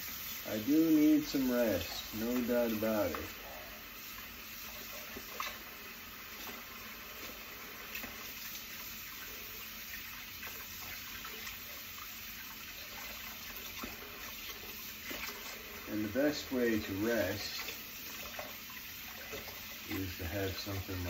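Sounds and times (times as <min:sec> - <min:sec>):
eggs sizzling in a pan: 0:00.0 - 0:21.0.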